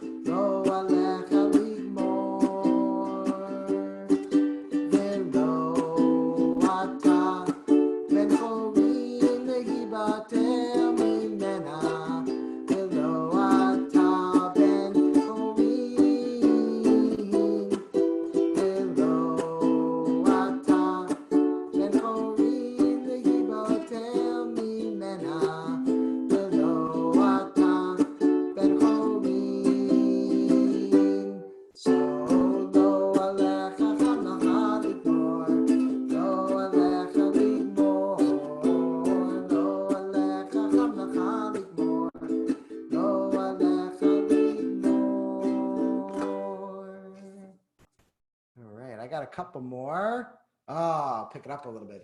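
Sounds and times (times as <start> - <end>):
ukulele strumming chords: 0.0 - 47.4.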